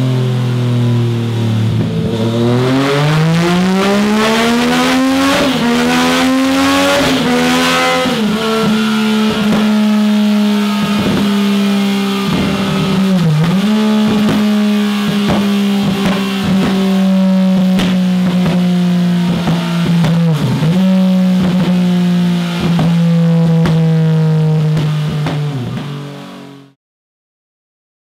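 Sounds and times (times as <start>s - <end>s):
motorcycle engine revving: 0.0s - 26.8s.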